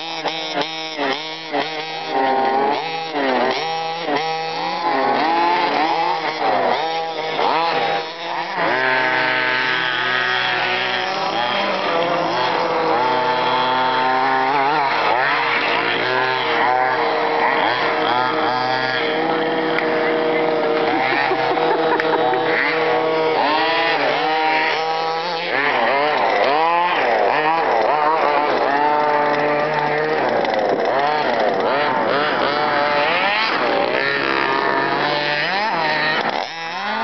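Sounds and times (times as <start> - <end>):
rc buggy engines revving: 0.0 - 37.0.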